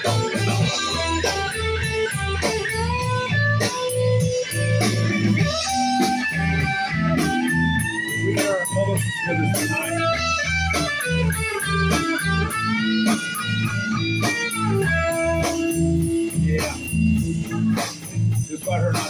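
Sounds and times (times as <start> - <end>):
bass and drums: 0.0 - 19.0
lead electric guitar: 0.0 - 19.0.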